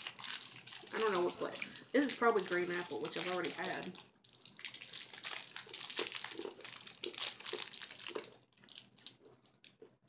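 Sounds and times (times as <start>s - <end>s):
candy wrapper crinkling: 0.0s - 9.8s
candy being chewed: 0.0s - 10.0s.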